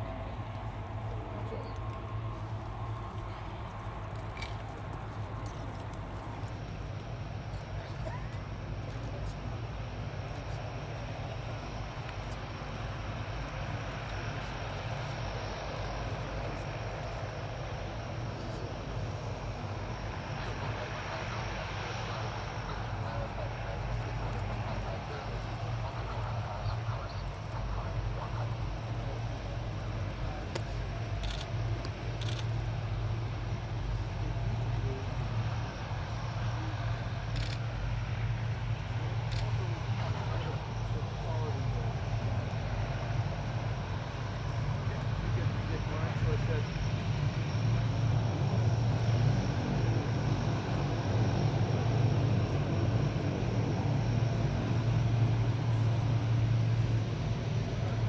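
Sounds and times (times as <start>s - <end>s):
turboprop engines running: 0.0s - 58.0s.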